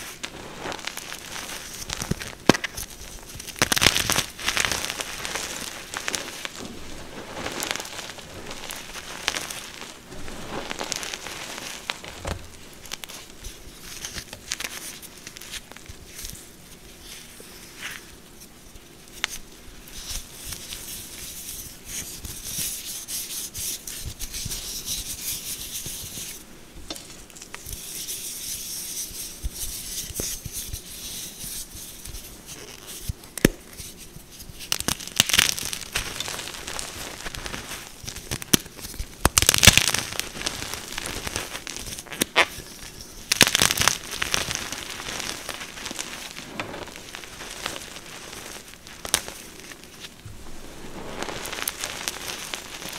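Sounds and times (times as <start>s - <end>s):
chalk crunching and crumbling: 0.0s - 52.9s.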